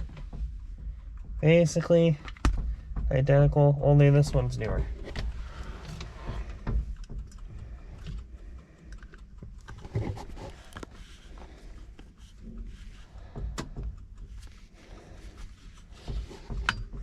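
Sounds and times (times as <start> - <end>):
hands rustling and knocking: 0.0 - 8.6, 9.4 - 17.0.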